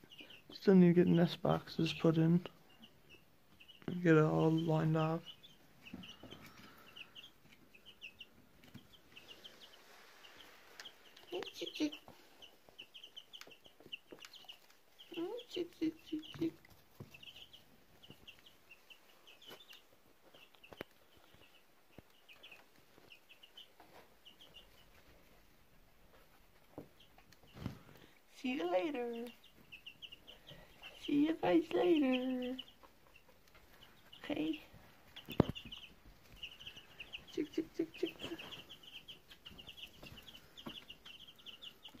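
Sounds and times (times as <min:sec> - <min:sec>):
chicks peeping: 0:00.0 - 0:42.0.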